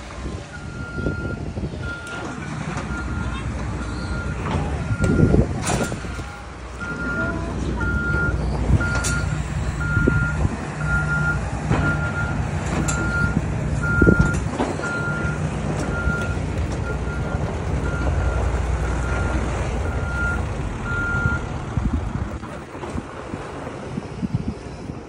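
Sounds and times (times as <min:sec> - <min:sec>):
low engine rumble: 0:00.0 - 0:25.0
reversing alarm beeping: 0:00.5 - 0:21.5.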